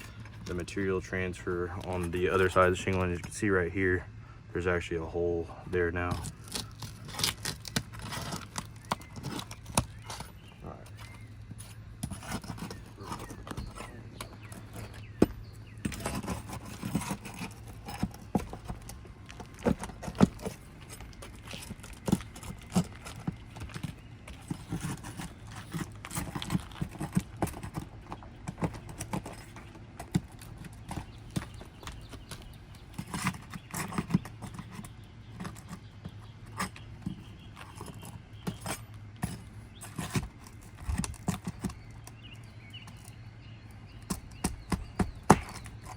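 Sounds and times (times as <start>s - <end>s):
shingles being pried up: 6.0s - 43.1s, 43.9s - 45.9s.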